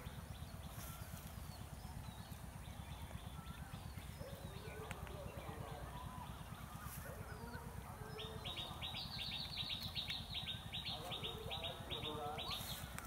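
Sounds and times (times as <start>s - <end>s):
bird chirping rapidly: 0.0s - 13.0s
low steady rumble: 0.0s - 13.0s.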